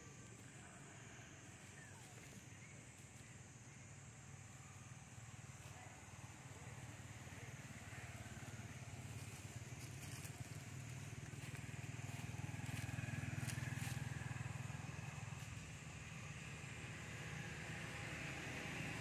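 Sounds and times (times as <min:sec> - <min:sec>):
distant engine hum: 0:00.0 - 0:19.0.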